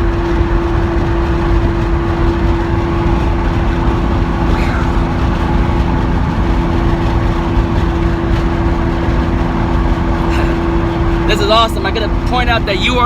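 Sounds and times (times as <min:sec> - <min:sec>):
car engine drone: 0:00.0 - 0:13.0
low road rumble: 0:00.0 - 0:13.0.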